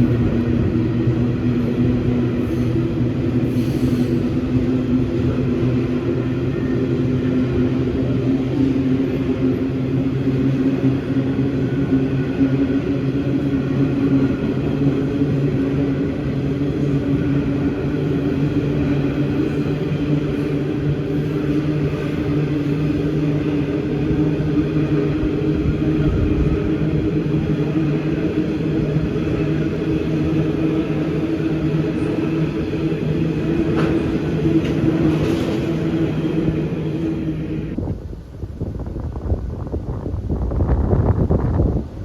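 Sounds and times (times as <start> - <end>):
diesel locomotive engine drone: 0.0 - 42.0.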